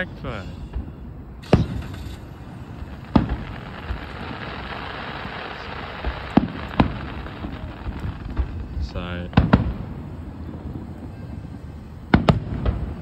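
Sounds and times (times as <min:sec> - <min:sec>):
fireworks bangs: 0:00.0 - 0:13.0
steady hiss: 0:00.0 - 0:13.0.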